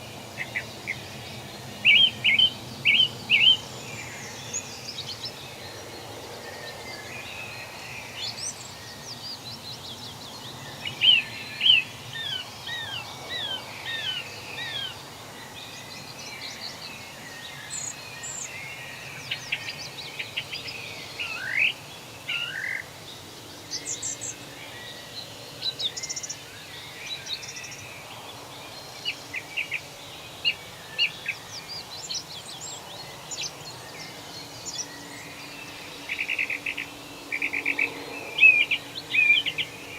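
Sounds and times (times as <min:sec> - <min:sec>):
forest birds singing and chirping: 0:00.0 - 0:39.9
steady background hiss: 0:00.0 - 0:39.9.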